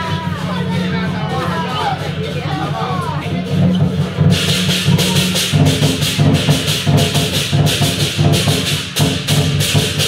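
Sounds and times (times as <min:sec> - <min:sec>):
cymbals clashing: 0:00.0 - 0:10.0
steady drumming: 0:00.0 - 0:10.0.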